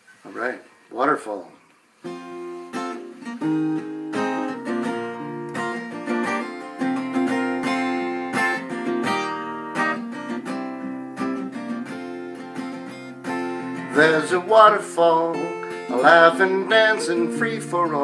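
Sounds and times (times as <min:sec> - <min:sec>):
acoustic guitar chords: 0:02.0 - 0:18.0.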